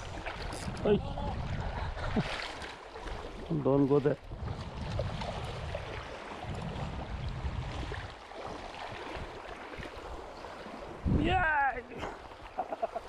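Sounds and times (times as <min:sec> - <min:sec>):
wind buffeting microphone: 0:00.0 - 0:12.5
small waves lapping: 0:00.0 - 0:13.0.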